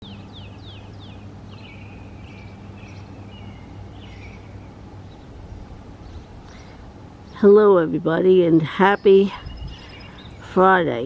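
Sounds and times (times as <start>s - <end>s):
birds calling: 0.0s - 11.0s
steady low hum: 0.0s - 11.0s.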